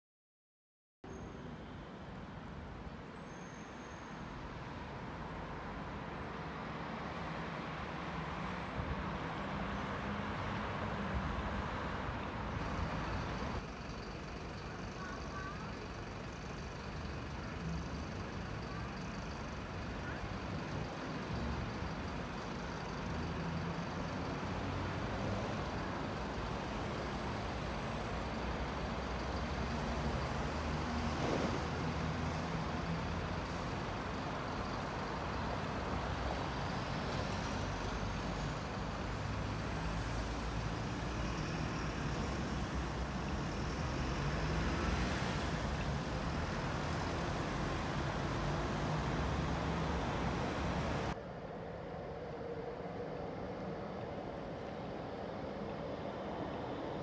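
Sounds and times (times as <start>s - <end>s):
heavy vehicle running: 3.7s - 51.2s.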